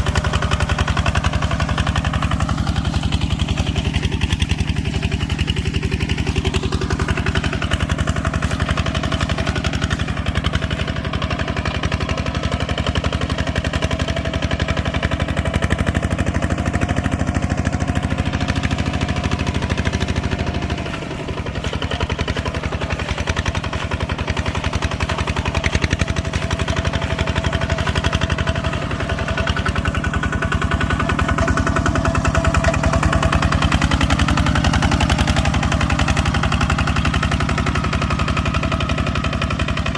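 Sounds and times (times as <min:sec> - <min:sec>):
farm machinery engine chugging: 0:00.0 - 0:39.9.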